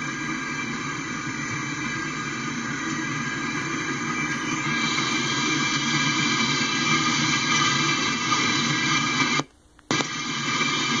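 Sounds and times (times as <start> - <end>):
recording hiss: 0.0 - 11.0.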